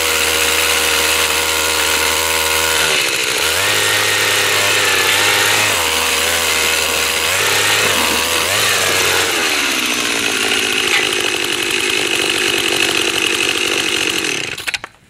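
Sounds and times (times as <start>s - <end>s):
ice auger engine running: 0.0s - 14.8s.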